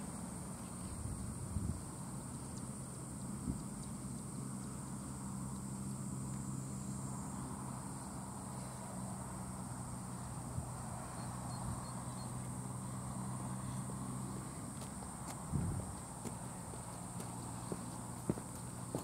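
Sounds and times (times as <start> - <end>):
insects droning: 0.0 - 19.0
steady low hum: 0.0 - 19.0.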